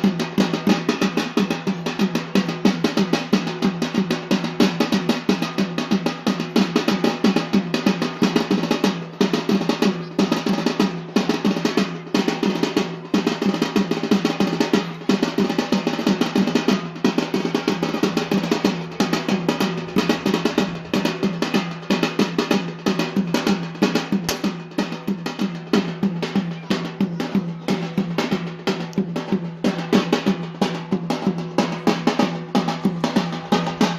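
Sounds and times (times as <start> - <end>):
drums beating fast rhythm: 0.0 - 33.9.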